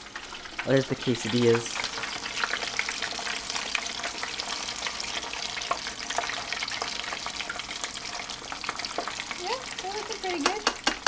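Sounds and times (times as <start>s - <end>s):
food sizzling in deep fryer: 0.0s - 11.0s.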